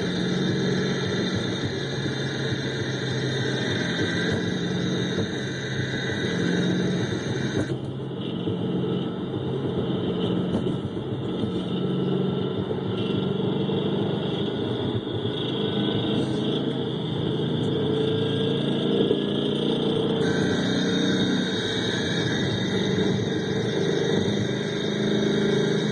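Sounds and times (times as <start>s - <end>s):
engine knocking: 0.0s - 17.5s, 18.4s - 25.9s
car engine running: 0.0s - 25.9s.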